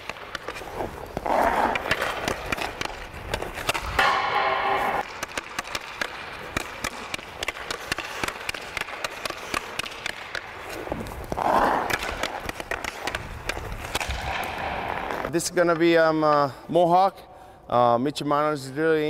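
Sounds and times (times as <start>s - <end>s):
skate blades scraping ice: 0.0s - 15.9s
hockey stick tapping puck: 0.0s - 16.5s.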